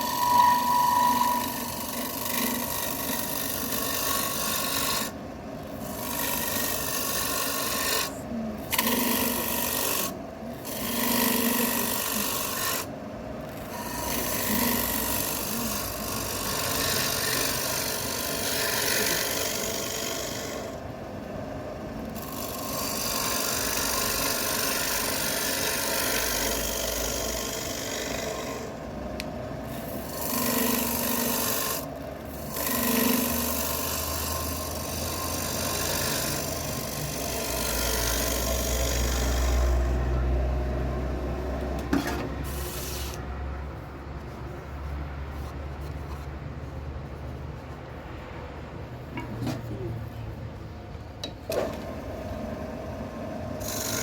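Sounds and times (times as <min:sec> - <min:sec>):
tool scraping spinning wood: 0:00.0 - 0:20.9, 0:22.0 - 0:28.9, 0:29.6 - 0:50.2, 0:53.2 - 0:54.0
wood lathe running: 0:00.0 - 0:41.8, 0:42.4 - 0:43.2, 0:51.5 - 0:54.0.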